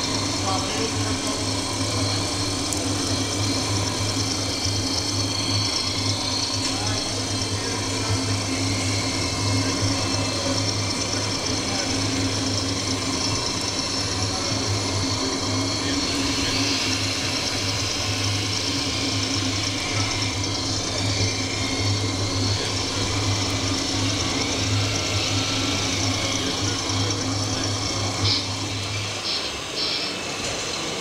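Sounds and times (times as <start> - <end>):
background chatter: 0.0 - 31.0
simulated diesel engine hum: 0.0 - 31.0.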